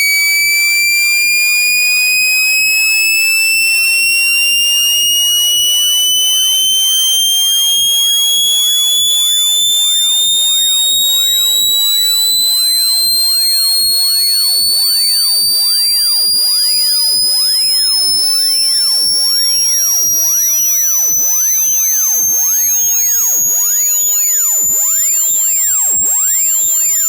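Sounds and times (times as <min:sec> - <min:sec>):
shrill rising electronic buzz: 0:00.0 - 0:27.0.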